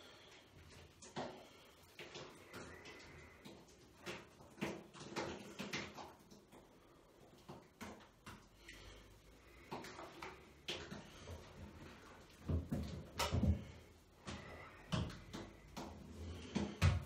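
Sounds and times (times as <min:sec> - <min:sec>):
wet squelches of batter: 0:00.0 - 0:17.0.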